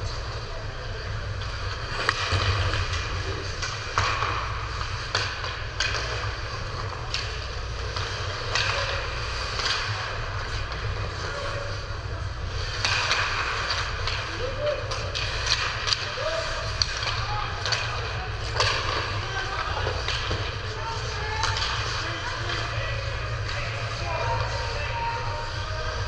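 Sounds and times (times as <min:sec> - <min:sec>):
sticks striking puck: 0:01.9 - 0:10.9, 0:12.5 - 0:25.2.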